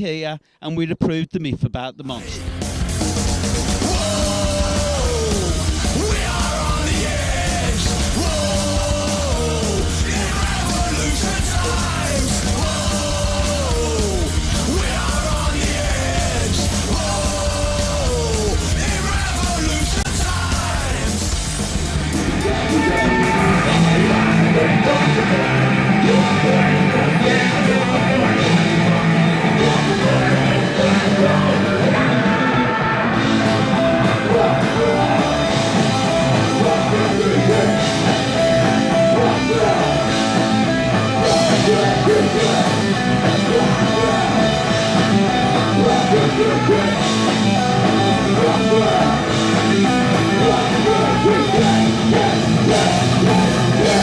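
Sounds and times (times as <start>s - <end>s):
drum kit fast beat: 2.2s - 54.0s
electric guitars: 2.2s - 54.0s
person singing: 3.8s - 21.4s, 22.3s - 54.0s.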